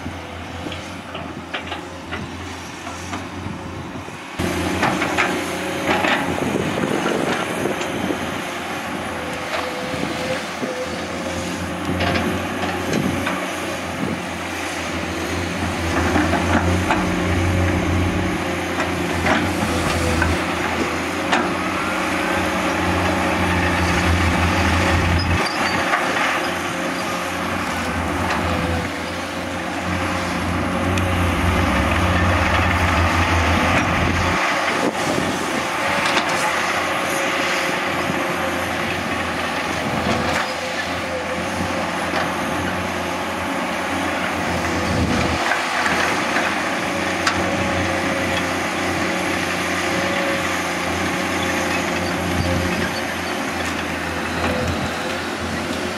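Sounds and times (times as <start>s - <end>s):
excavator diesel engines: 0.0s - 55.9s.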